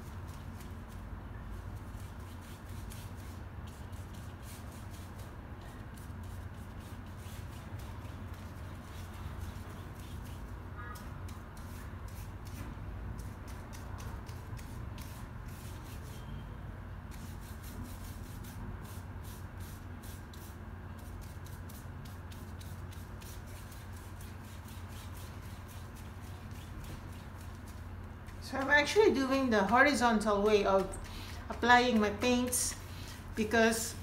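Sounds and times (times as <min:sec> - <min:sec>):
paintbrush swishing on paper: 0:00.0 - 0:16.4, 0:17.1 - 0:34.0
low background hum: 0:00.0 - 0:34.0.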